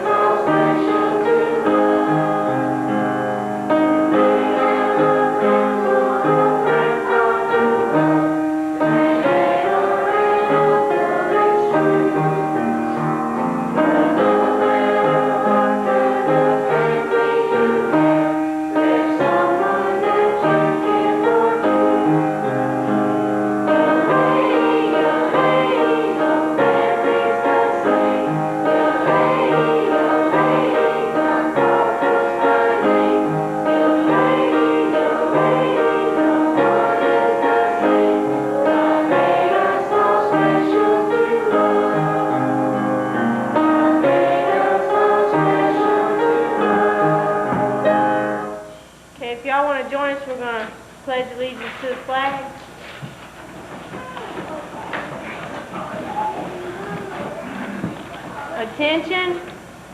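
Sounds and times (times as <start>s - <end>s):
choir singing: 0.0s - 48.8s
piano accompaniment: 0.0s - 48.8s.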